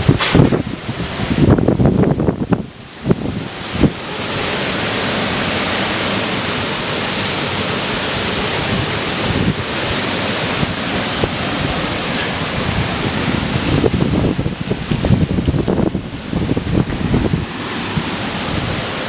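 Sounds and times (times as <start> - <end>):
hurricane wind rushing: 0.0 - 19.0
wind buffeting microphone: 0.0 - 19.0.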